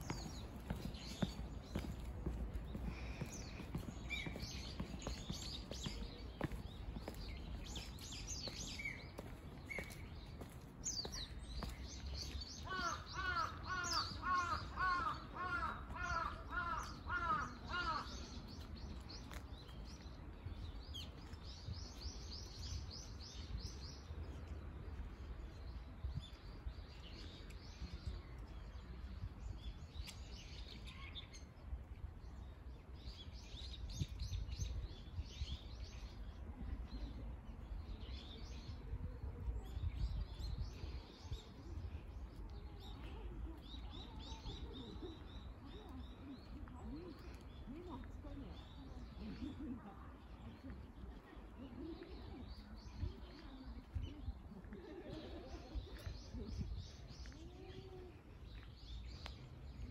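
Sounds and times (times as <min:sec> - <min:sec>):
faint footsteps on stone paving: 0:00.0 - 0:59.9
small birds chirping and twittering: 0:00.0 - 0:59.9.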